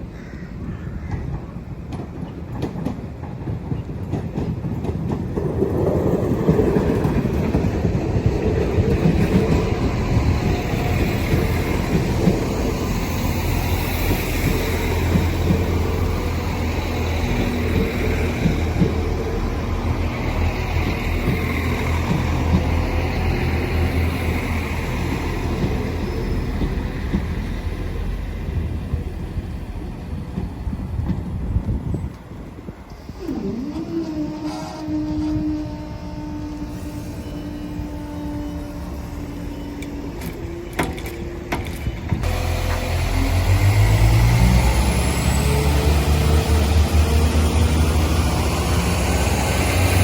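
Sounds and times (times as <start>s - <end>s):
train rumbling along track: 0.0s - 50.0s.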